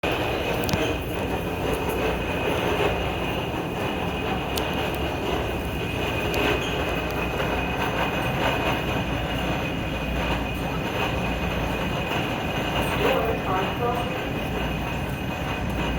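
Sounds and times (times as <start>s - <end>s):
subway car wheels rumbling: 0.0s - 15.9s.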